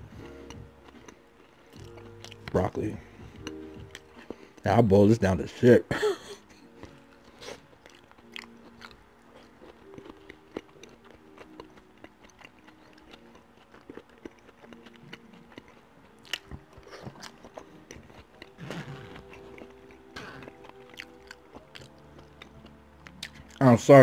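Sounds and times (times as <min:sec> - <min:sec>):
faint background music: 0:00.0 - 0:24.0
chewing with wet mouth clicks: 0:00.2 - 0:04.6, 0:06.8 - 0:23.7.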